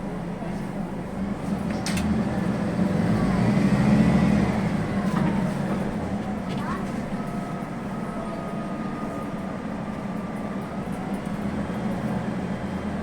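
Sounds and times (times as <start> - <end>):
bus engine drone with whine: 0.0 - 13.0.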